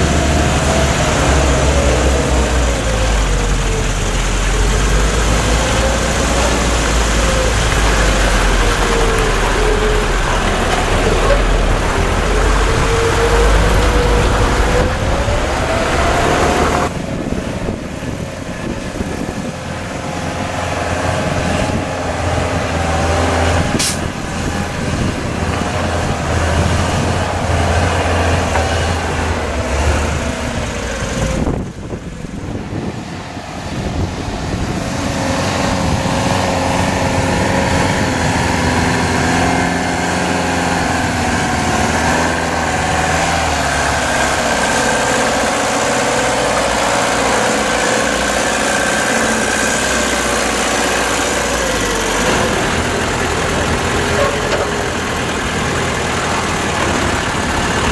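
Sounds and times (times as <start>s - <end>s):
diesel truck engine at low revs: 0.0s - 57.9s.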